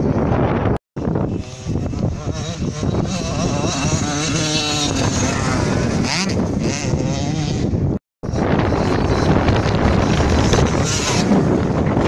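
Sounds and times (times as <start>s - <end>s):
motocross bike engine revving: 1.0s - 12.0s.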